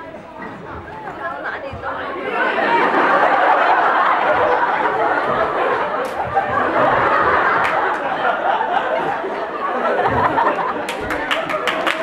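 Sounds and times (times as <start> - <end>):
audience laughing and chattering: 0.0 - 12.0.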